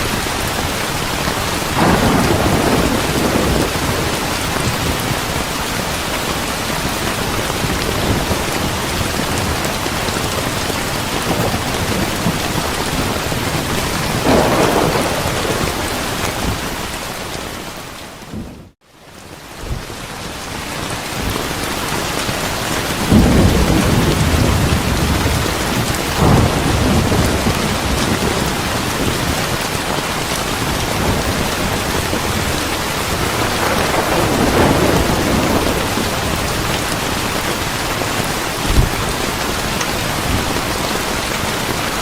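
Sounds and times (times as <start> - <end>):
steady rain falling: 0.0 - 42.0
rolling thunder: 1.5 - 17.4, 22.9 - 40.9.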